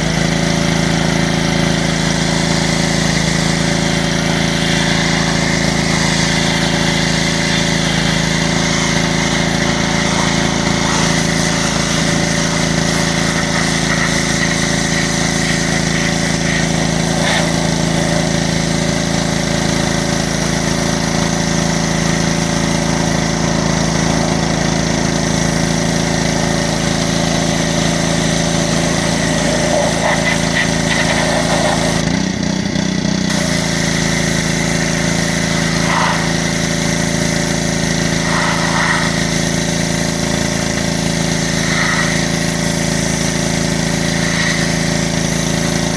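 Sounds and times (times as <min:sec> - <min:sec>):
pressure washer running: 0:00.0 - 0:45.9.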